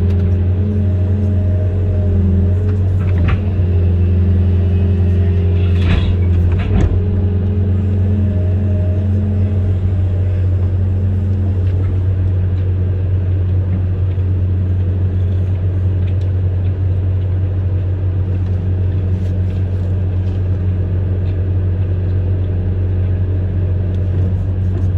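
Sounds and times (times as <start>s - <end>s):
diesel engine droning: 0.0s - 24.9s.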